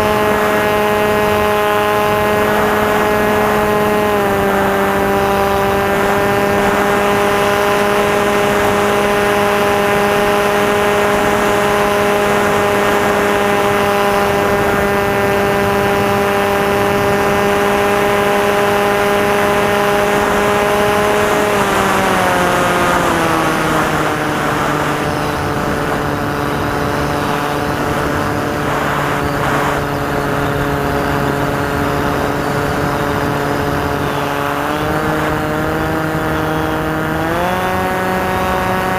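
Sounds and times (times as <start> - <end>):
airflow rush: 0.0 - 38.9
electric motor propeller whine: 0.0 - 38.9.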